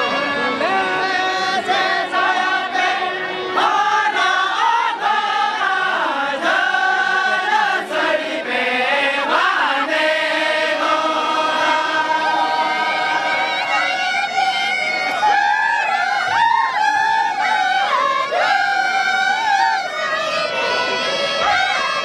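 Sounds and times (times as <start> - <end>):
women singing in unison: 1.0 - 14.4, 15.0 - 20.2.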